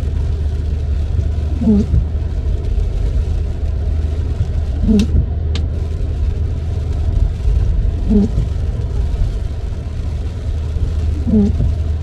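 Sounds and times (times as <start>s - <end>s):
tyre rumble on wet road: 0.0s - 12.0s
windshield wiper groaning: 0.0s - 12.0s.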